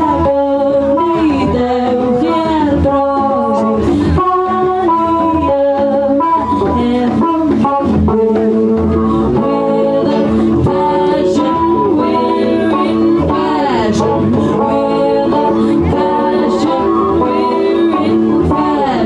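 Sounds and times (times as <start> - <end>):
bass: 0.0 - 19.0
cello: 0.0 - 19.0
drum kit: 0.0 - 19.0
electric guitars: 0.0 - 19.0
person singing: 0.0 - 19.0.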